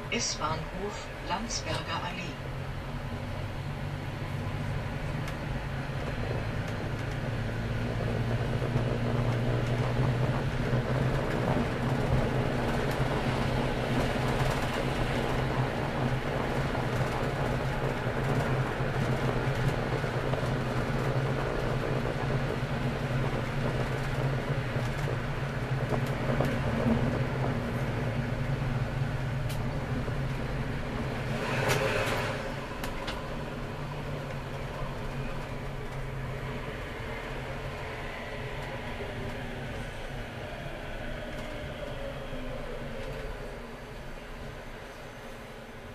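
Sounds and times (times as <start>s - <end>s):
tram low hum: 0.0s - 45.9s
wheels rushing on rails: 0.0s - 45.9s.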